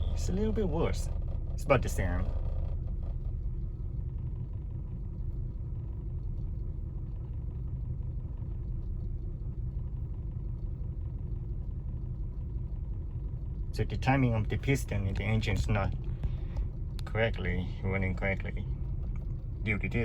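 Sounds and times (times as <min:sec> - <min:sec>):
car engine idling roughly: 0:00.0 - 0:20.0.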